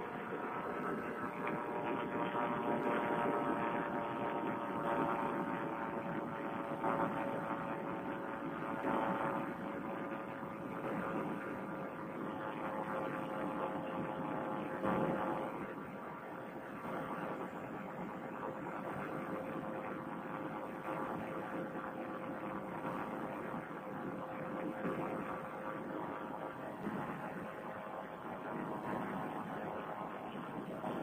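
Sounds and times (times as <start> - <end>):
paramotor engine and propeller droning: 0.0 - 31.0.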